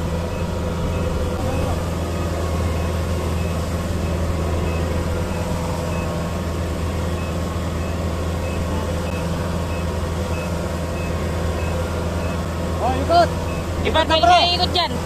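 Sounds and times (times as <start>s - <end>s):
farm vehicle engine running: 0.0s - 15.0s.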